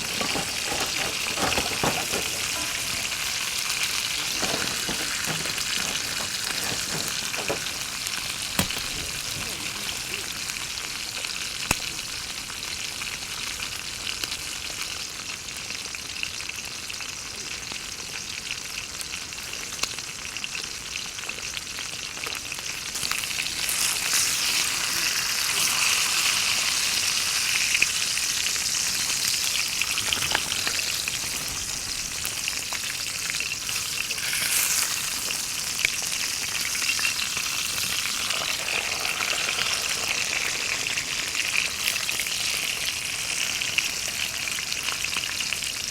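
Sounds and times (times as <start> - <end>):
steak sizzling in a pan: 0.0 - 45.9.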